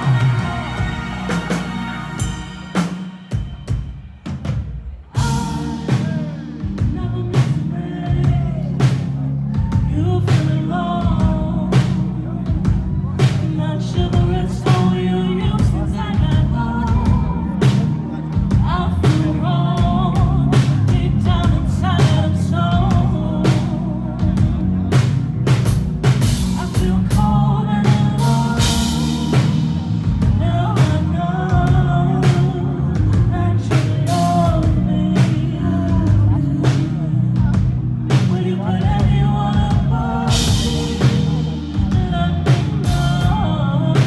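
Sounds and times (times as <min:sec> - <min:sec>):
live hip-hop music: 0:00.0 - 0:44.0.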